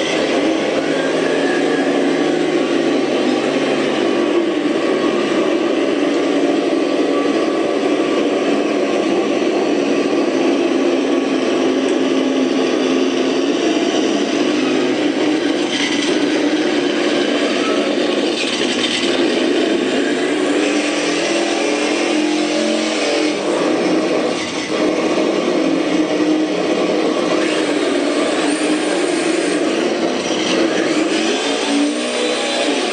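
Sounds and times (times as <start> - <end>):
simulated engine sound from speaker: 0.0 - 32.9.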